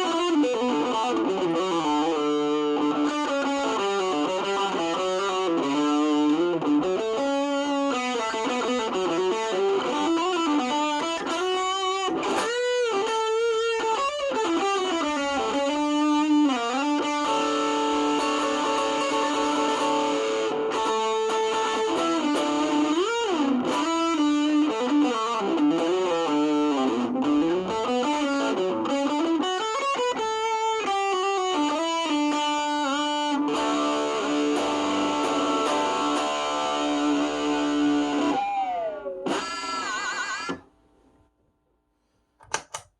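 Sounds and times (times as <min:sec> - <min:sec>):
distorted electric guitar: 0:00.0 - 0:40.8.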